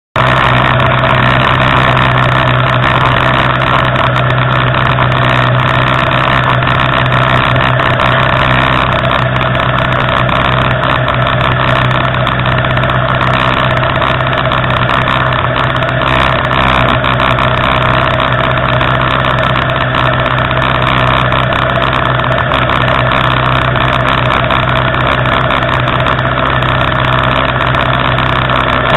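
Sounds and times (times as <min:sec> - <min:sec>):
motorcycle engines idling: 0:00.2 - 0:28.9.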